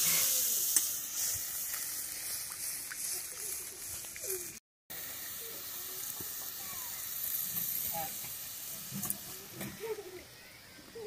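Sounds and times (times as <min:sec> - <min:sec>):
gravy simmering with sizzling hiss: 0:00.0 - 0:11.0.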